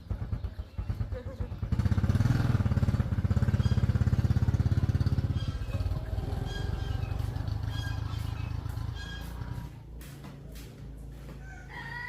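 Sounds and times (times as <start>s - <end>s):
small engine puttering: 0.0s - 9.8s.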